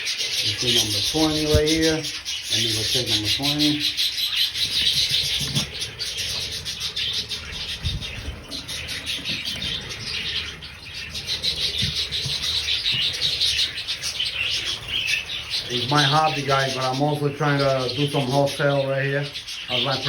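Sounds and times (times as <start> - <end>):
flock of budgerigars chattering: 0.0 - 20.0.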